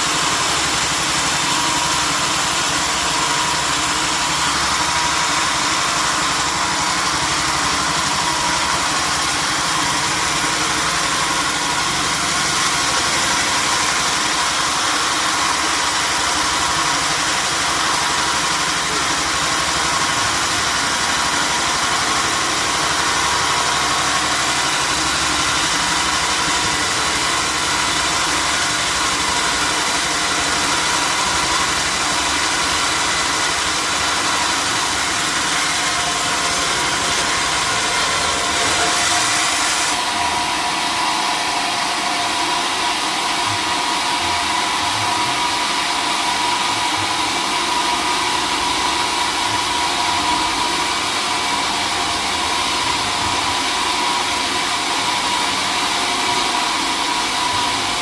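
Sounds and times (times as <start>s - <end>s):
sawmill machinery hissing: 0.0s - 58.0s.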